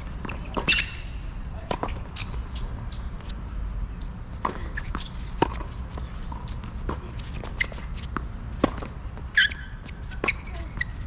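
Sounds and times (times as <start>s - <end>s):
shoes squeaking and scuffing: 0.0s - 3.3s, 4.0s - 11.0s
tennis ball hits and bounces: 0.0s - 3.3s, 4.3s - 11.0s.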